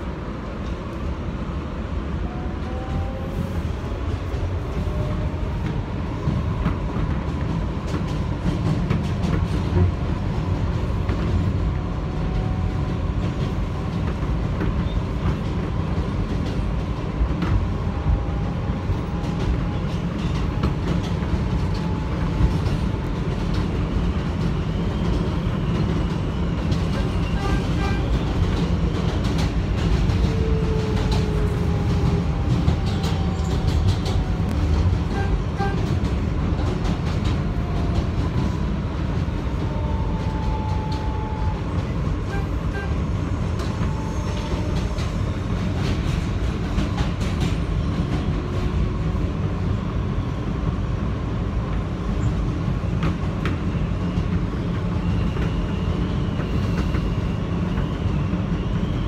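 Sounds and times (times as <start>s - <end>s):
rumble of train wheels on rail: 0.0s - 59.0s.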